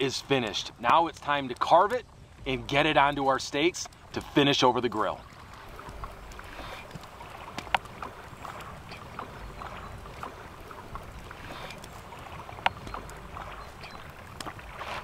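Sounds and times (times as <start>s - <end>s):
lake water: 0.0s - 15.0s
wind: 0.0s - 15.0s.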